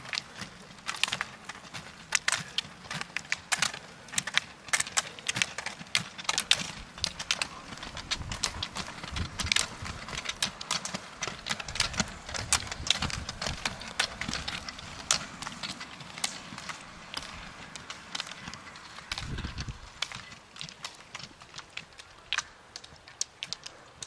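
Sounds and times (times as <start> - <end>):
ski pole tips clicking on asphalt: 0.0 - 24.0.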